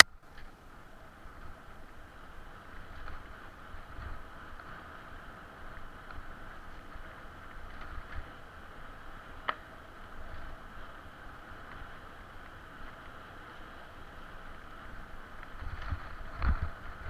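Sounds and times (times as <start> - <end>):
bicycle tyres rumbling on dirt: 0.0 - 17.0
bicycle clicks and rattles: 1.3 - 17.0.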